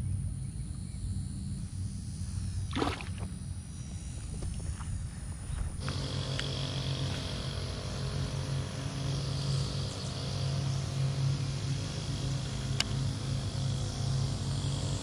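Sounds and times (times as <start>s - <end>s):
motor running with low drone: 0.0s - 15.0s.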